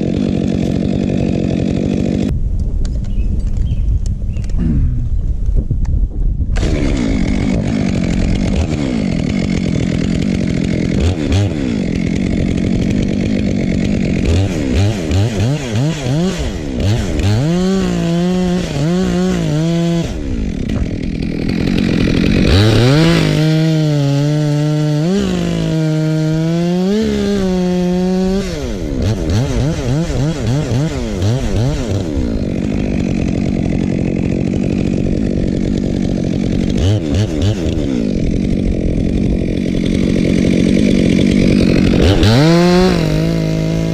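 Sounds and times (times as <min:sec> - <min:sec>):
chainsaw revving and cutting wood: 0:00.0 - 0:02.4, 0:06.5 - 0:43.9.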